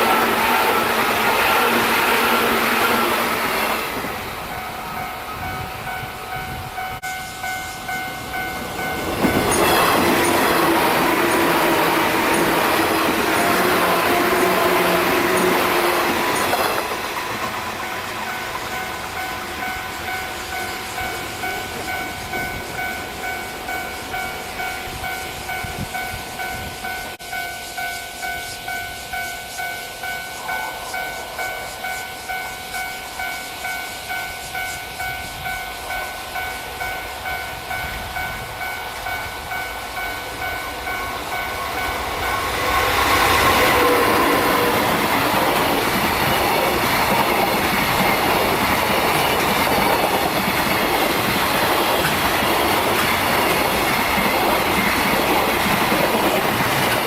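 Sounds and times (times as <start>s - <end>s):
train passing: 0.0s - 57.0s.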